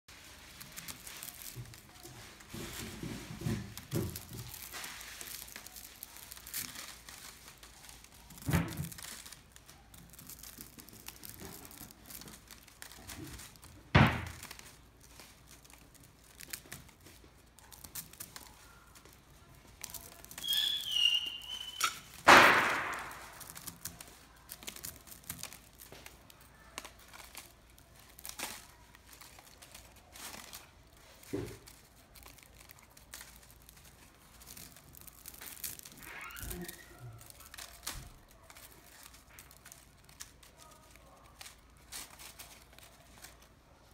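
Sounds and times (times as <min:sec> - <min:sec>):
paper crinkling: 0:00.1 - 0:43.9
small clicks and scraping: 0:00.1 - 0:43.9
tea cake cracking: 0:00.1 - 0:43.9.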